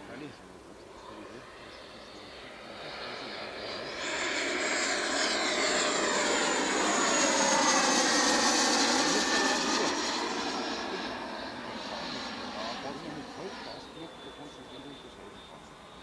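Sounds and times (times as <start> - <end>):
model jet fan whining past: 0.9 - 16.0.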